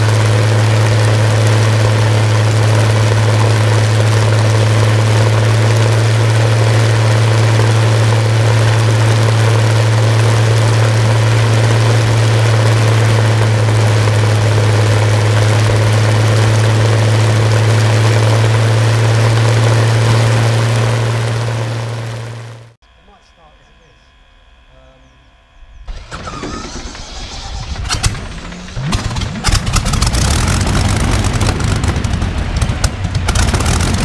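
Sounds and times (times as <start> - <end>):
aero engine droning: 0.0 - 34.0.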